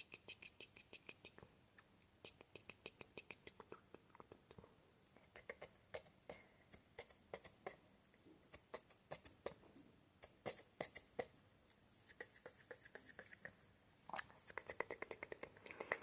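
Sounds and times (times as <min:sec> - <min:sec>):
tongue and lip clicks: 0:00.0 - 0:11.8, 0:13.0 - 0:16.0.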